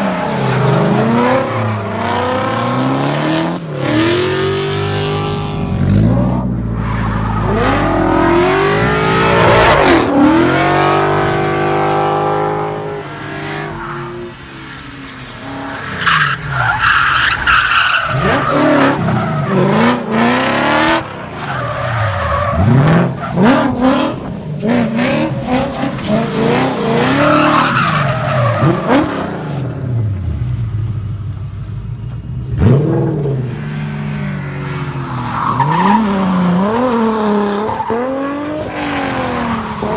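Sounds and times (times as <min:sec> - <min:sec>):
car engines revving: 0:00.0 - 0:39.9
tyres skidding: 0:00.0 - 0:39.9.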